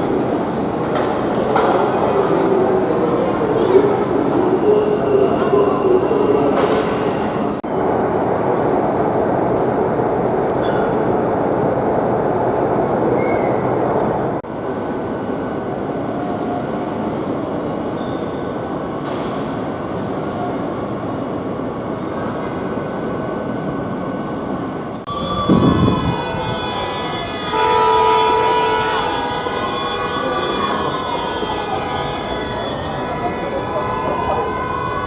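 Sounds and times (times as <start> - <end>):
train rolling rumble: 0.0 - 35.0.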